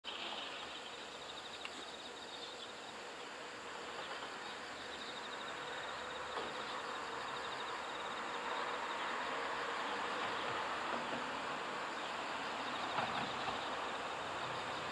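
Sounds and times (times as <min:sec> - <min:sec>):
insects trilling: 0:00.1 - 0:14.9
steady rushing hiss: 0:00.1 - 0:14.9.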